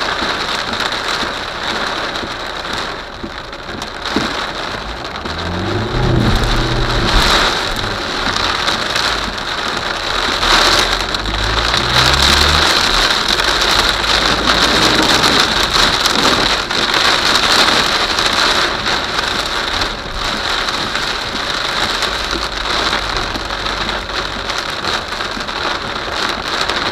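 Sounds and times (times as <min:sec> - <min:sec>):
heavy rain pouring: 0:00.0 - 0:26.9
thunder rumbles: 0:03.8 - 0:26.9.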